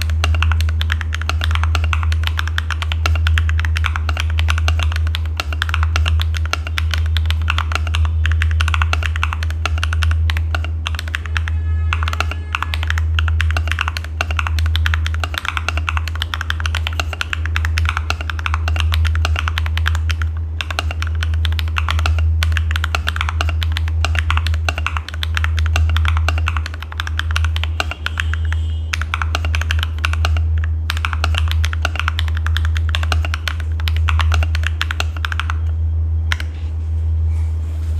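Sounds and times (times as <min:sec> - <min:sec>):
mechanical keyboard typing: 0:00.0 - 0:36.6
steady low hum: 0:00.0 - 0:37.9.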